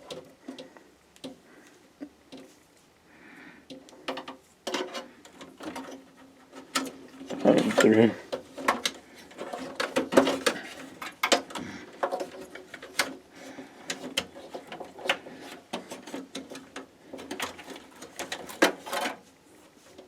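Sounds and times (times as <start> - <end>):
cable rustling: 3.7 - 20.0.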